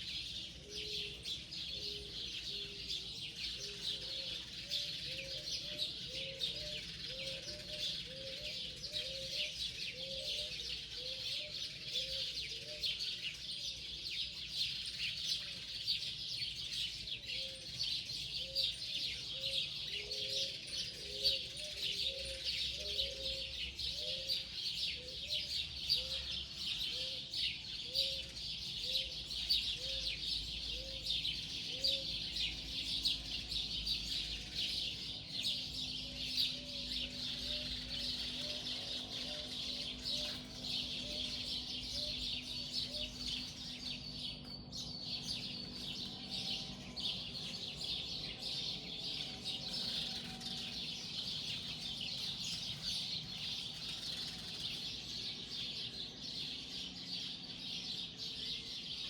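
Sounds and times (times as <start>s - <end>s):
birds chirping chorus: 0.0s - 59.0s.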